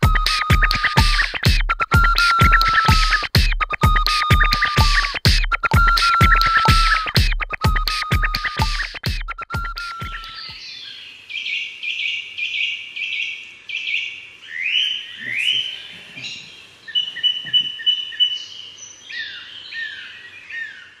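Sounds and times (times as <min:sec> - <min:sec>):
bird calls: 0:00.0 - 0:21.0.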